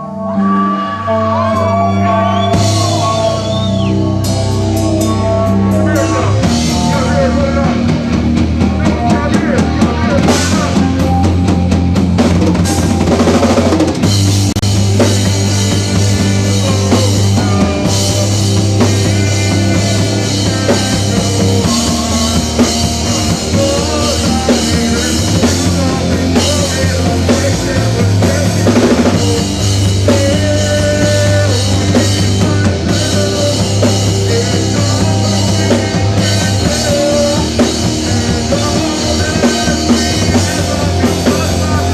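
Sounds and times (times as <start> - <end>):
drum kit: 0.0 - 41.9
rock band playing: 0.0 - 41.9.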